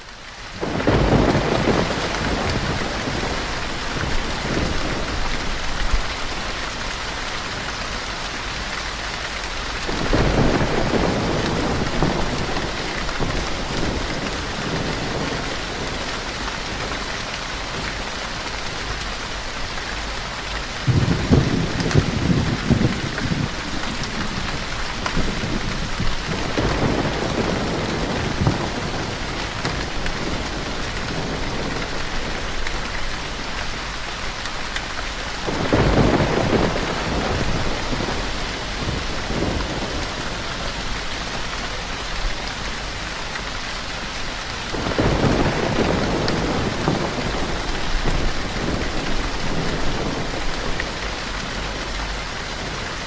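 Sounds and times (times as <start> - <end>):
steady rainfall: 0.0 - 53.0
distant thunder rumbling: 0.6 - 7.8, 9.8 - 19.0, 20.8 - 33.9, 35.4 - 42.4, 44.6 - 52.9.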